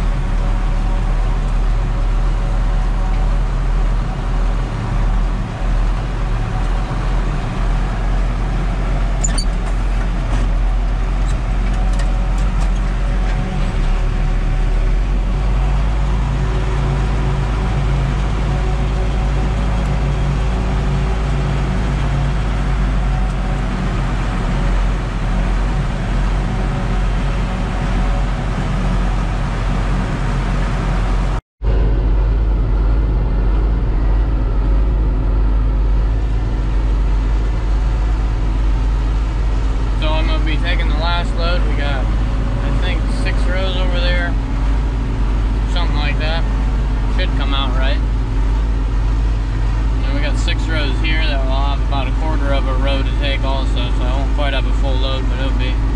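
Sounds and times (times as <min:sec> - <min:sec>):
diesel engine drone: 0:00.0 - 0:55.9.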